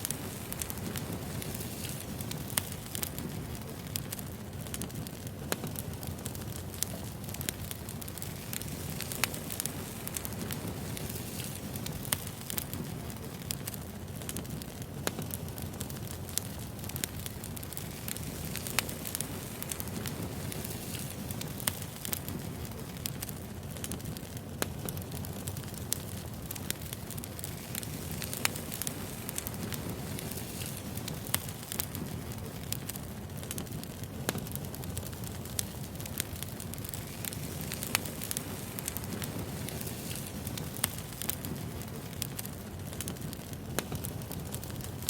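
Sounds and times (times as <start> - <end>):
firewood crackling and popping: 0.0 - 45.0.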